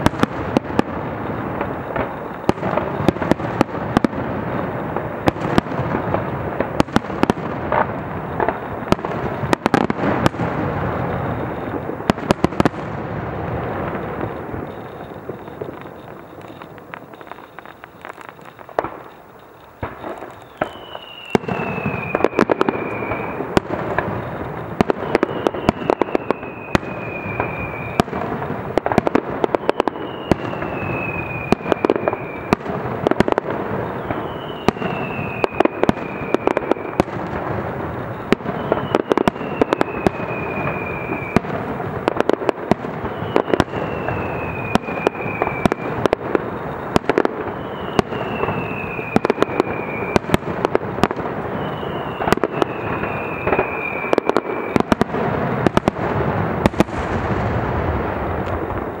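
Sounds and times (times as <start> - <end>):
falling firework whistle: 0.0 - 59.0
fireworks bangs and pops: 0.0 - 59.0.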